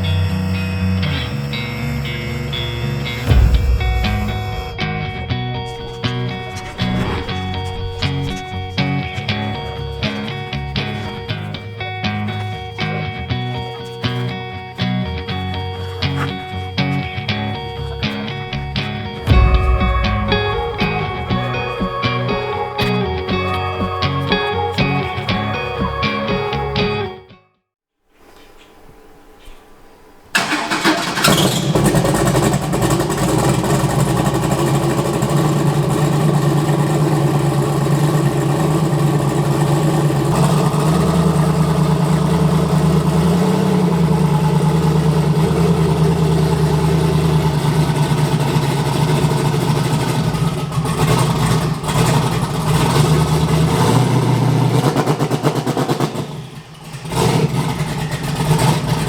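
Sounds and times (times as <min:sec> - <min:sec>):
car engine starting and running: 0:00.0 - 0:27.0, 0:30.3 - 0:59.0.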